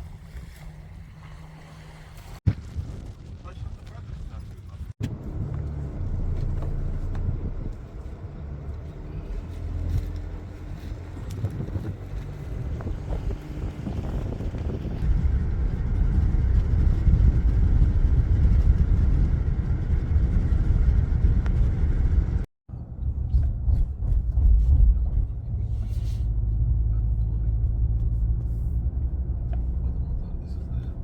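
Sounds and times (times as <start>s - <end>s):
moving vehicle rumbling: 0.0s - 31.0s.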